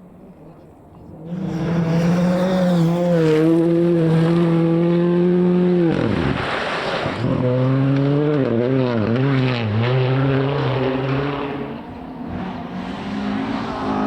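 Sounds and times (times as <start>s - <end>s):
rally car engine at high revs: 1.1s - 14.0s.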